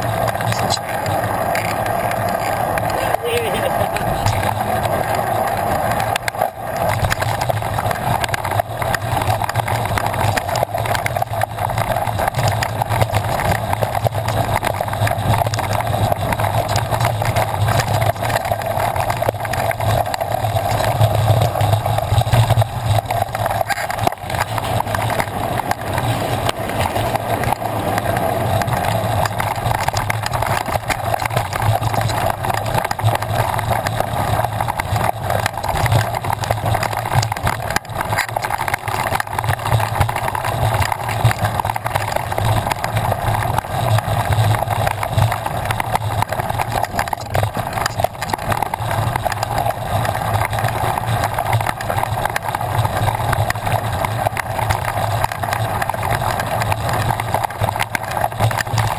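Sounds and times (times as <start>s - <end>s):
bike knocking and rattling: 0.0s - 58.9s
wind and tyre noise: 0.0s - 58.9s.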